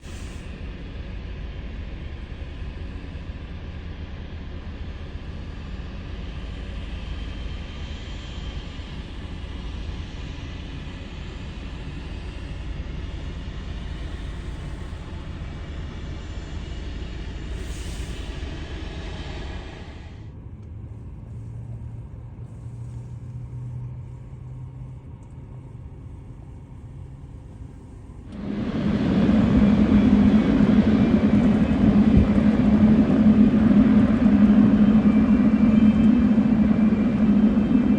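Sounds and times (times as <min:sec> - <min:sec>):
jet engines rumbling: 0:00.0 - 0:20.5, 0:25.8 - 0:37.9.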